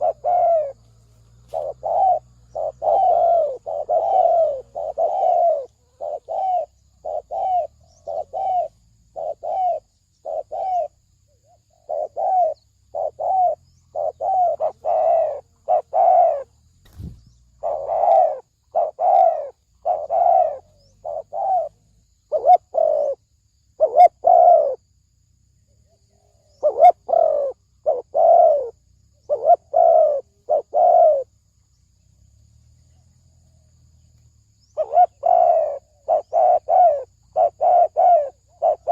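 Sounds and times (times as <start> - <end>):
dove cooing: 0.0 - 23.2, 23.8 - 24.8, 26.1 - 31.3, 34.7 - 38.9.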